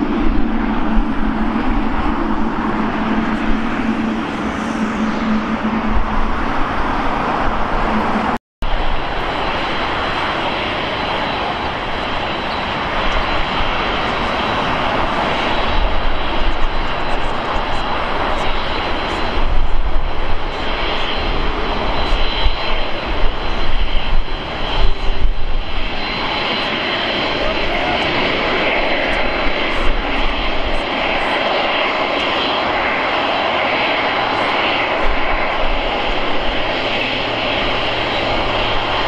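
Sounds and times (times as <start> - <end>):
high turbine whine: 0.0 - 39.0
jet engines roaring: 0.0 - 39.0.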